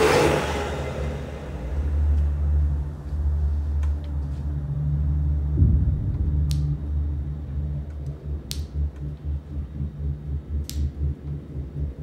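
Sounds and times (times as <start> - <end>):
low pulsing drone: 0.0 - 12.0.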